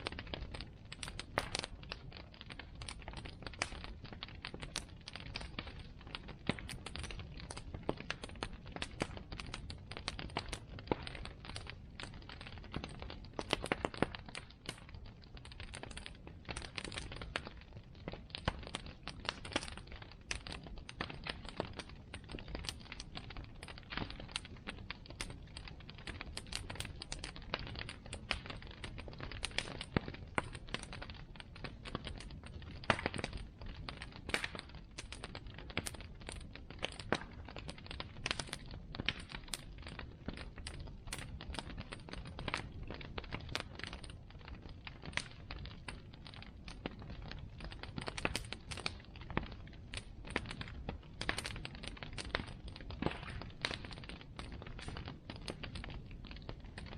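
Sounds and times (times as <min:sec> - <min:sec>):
bonfire crackling and popping: 0:00.0 - 0:56.9.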